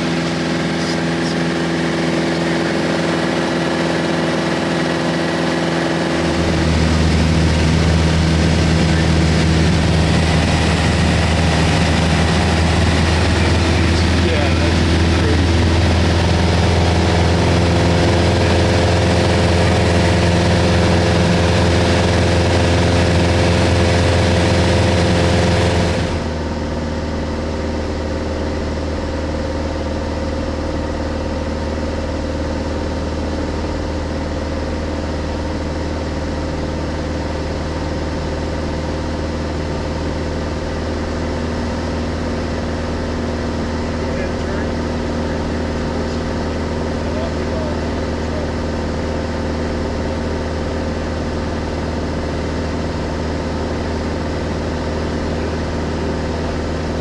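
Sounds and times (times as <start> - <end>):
light airplane engine droning: 0.0 - 57.0.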